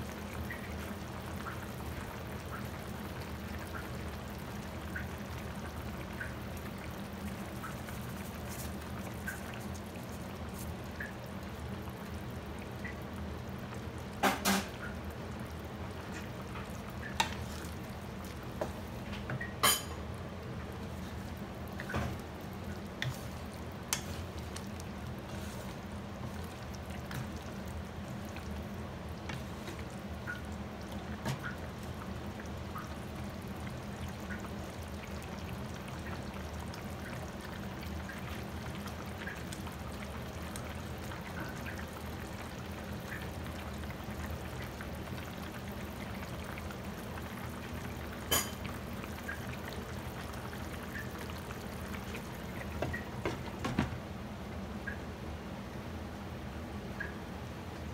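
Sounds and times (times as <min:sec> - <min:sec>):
sauce bubbling in a pan: 0:00.0 - 0:55.9
low steady hum: 0:00.0 - 0:57.9.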